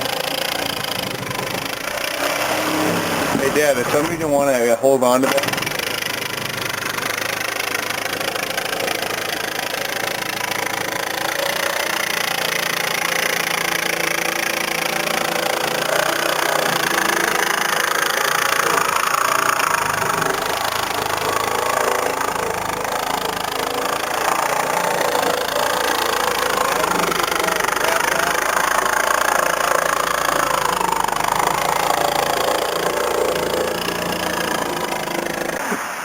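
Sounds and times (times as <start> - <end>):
power saw cutting fiberglass: 0.0 - 36.0.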